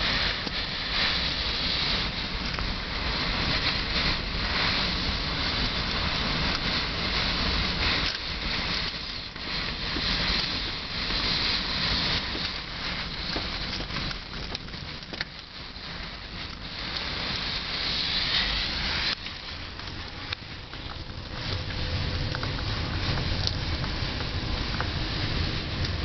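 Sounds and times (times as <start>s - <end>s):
hiss of wind-driven snow: 0.0s - 26.0s
wind buffeting microphone: 0.0s - 26.0s.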